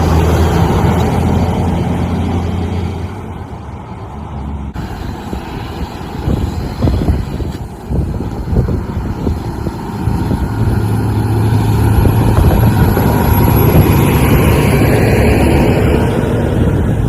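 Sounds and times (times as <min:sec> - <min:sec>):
heavy truck engine rumble: 0:00.0 - 0:17.0.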